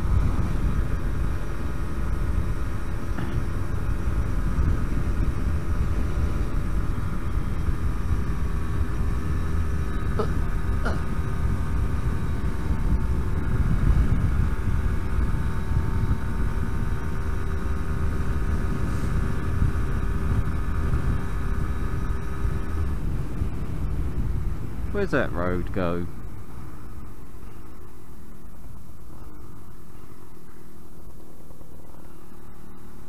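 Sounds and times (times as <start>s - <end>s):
wind rumble on microphone: 0.0s - 32.9s
two-stroke motorcycle engine running: 0.0s - 33.0s.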